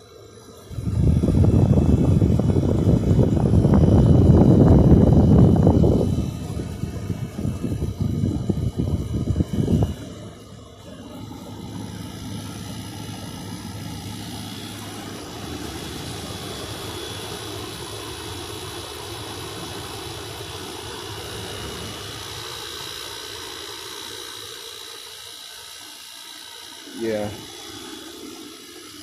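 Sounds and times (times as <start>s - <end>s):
air conditioner running: 0.0s - 29.0s.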